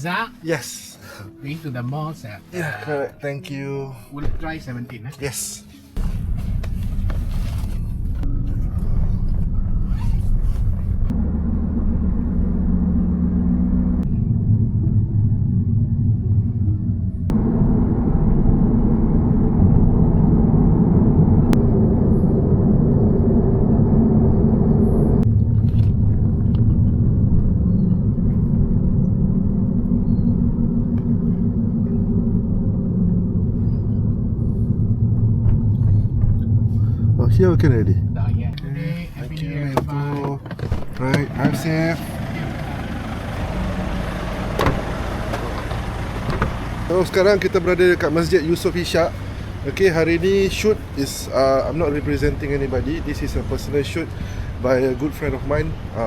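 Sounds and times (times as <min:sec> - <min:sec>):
car cabin road and engine rumble: 0:00.0 - 0:56.0.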